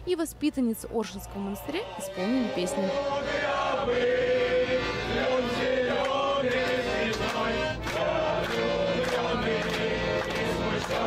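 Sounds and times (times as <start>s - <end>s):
piano accordion: 0.4s - 11.0s
boys singing together: 1.8s - 11.0s.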